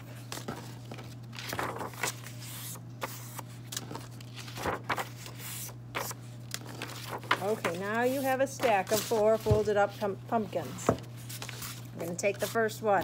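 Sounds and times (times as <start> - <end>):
steady low hum: 0.0 - 13.0
paper rustling and creasing: 0.1 - 12.8.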